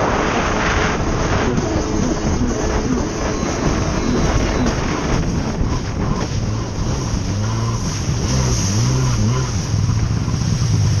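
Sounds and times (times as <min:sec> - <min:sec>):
jet ski engine running hard: 0:00.0 - 0:11.0
rushing water: 0:00.0 - 0:11.0
wind noise: 0:00.0 - 0:11.0.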